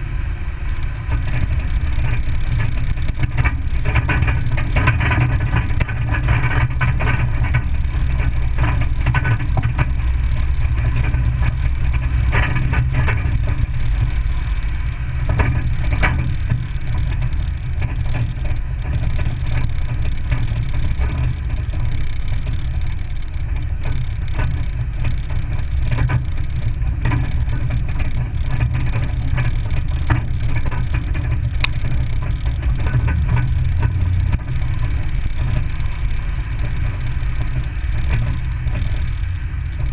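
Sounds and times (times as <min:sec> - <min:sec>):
vehicle engine and tyre rumble: 0:00.0 - 0:39.9
stones clicking under wheels: 0:00.7 - 0:39.9.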